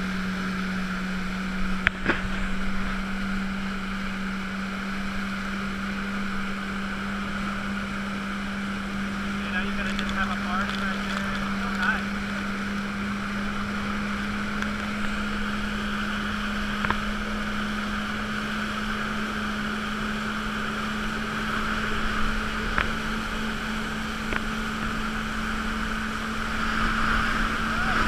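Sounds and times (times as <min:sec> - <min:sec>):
jet ski engine drone: 0:00.0 - 0:28.0
water rushing past hull: 0:00.0 - 0:28.0.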